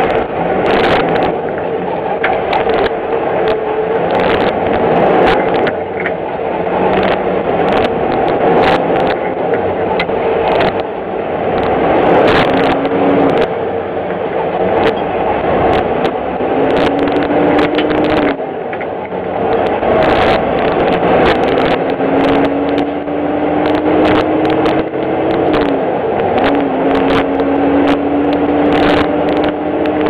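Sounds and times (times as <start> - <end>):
clicks and rattles: 0.0 - 30.0
truck engine and road noise: 0.0 - 30.0.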